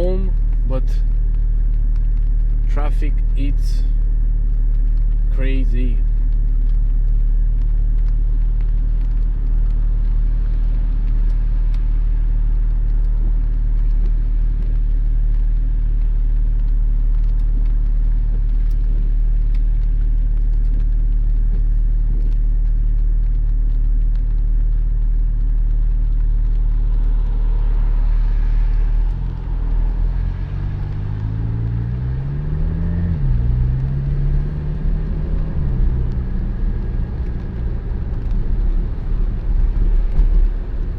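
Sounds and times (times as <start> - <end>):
car engine idling and accelerating: 0.0 - 40.9.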